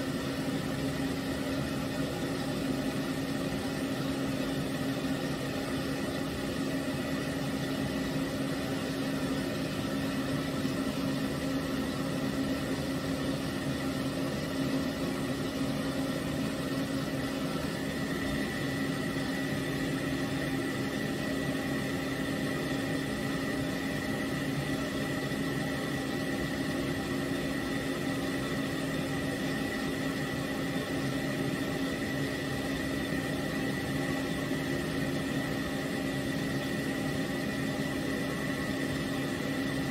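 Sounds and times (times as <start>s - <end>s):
pet dryer whirring: 0.0s - 39.9s.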